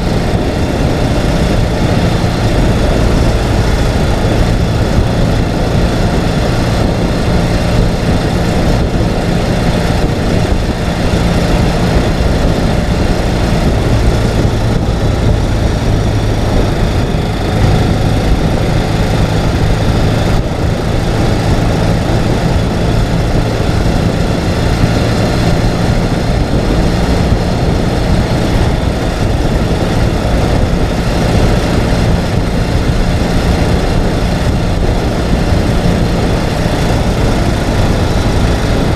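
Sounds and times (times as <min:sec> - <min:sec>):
motorcycle engine running: 0:00.0 - 0:38.9
rush of noise: 0:00.0 - 0:38.9.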